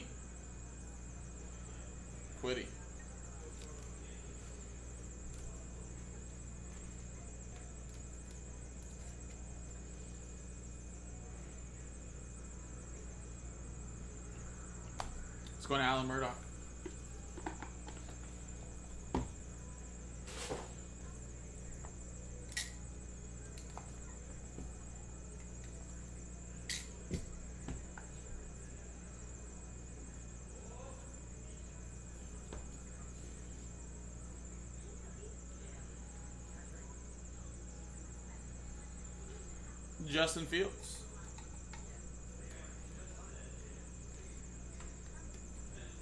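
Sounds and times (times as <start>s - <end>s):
faint high whine: 0.0s - 46.0s
steady low hum: 0.0s - 46.0s.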